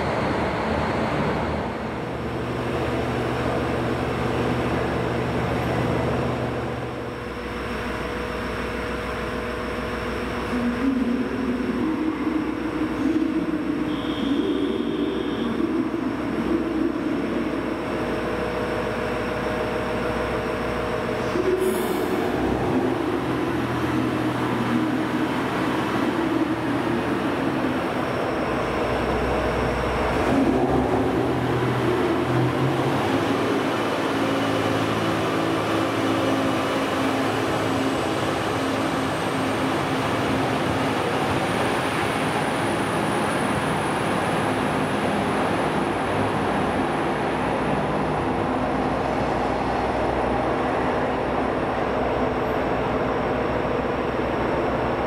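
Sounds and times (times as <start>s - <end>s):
train hum and rail noise: 0.0s - 55.0s.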